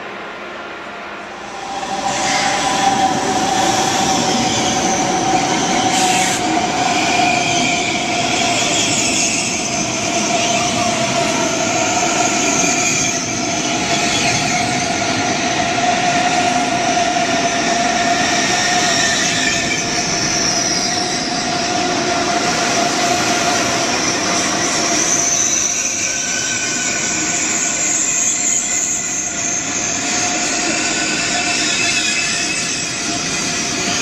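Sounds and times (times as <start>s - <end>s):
train wheels rolling on rails: 0.8s - 34.0s.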